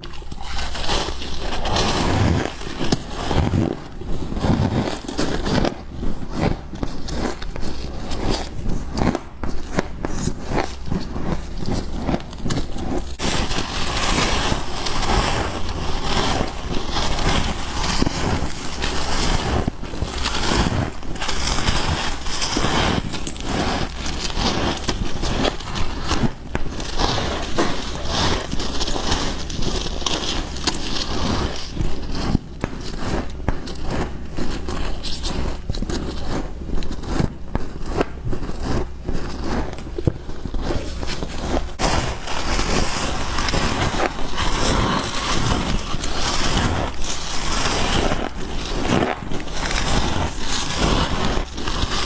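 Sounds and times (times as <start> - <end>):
frost being chewed and crunched: 0.0 - 52.0.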